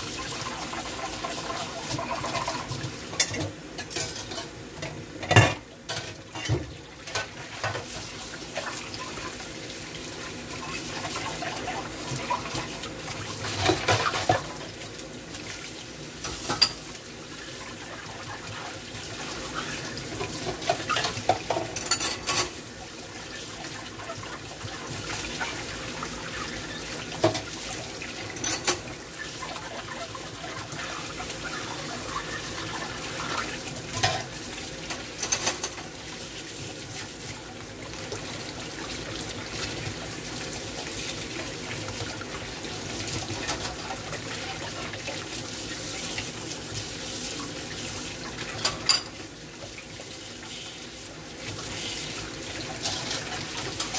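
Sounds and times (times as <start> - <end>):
tap water splashing in sink: 0.1 - 9.4, 10.5 - 16.8, 18.1 - 50.5.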